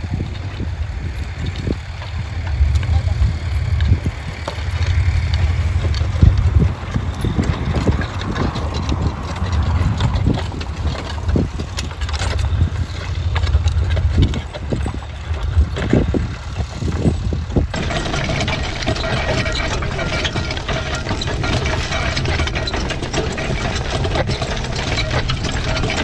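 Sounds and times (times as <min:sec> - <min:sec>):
steady low rumble: 0:00.0 - 0:25.7
harness chains clinking: 0:00.0 - 0:26.0
hoofbeats on soft soil: 0:00.0 - 0:26.0.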